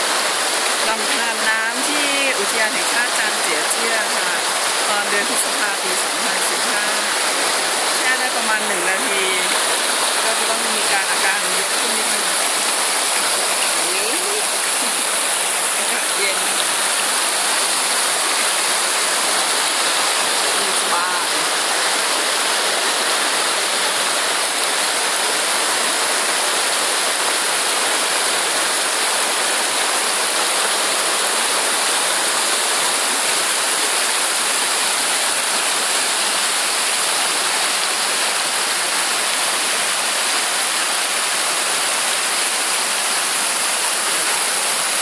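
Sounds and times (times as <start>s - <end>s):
stream rushing over stones: 0.0s - 45.0s.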